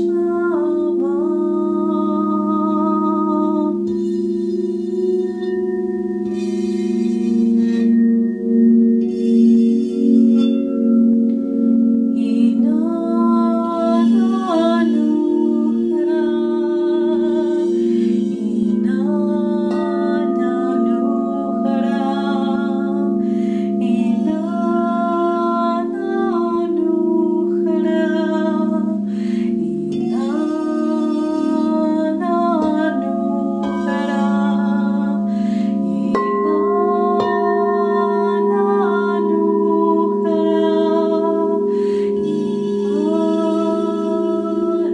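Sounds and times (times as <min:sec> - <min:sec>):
woman singing long tones: 0:00.0 - 0:11.4, 0:12.0 - 0:44.9
crystal singing bowls ringing: 0:00.0 - 0:44.9.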